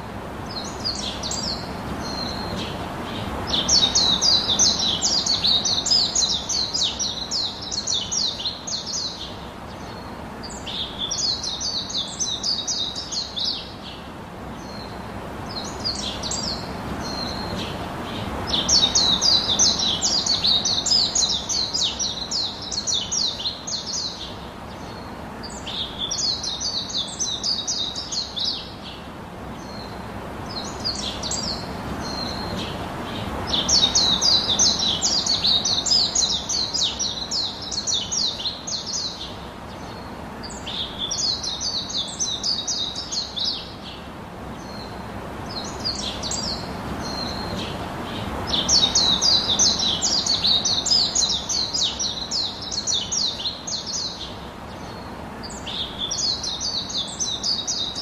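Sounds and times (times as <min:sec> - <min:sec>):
bird chirping: 0:00.5 - 0:14.0, 0:15.5 - 0:58.0.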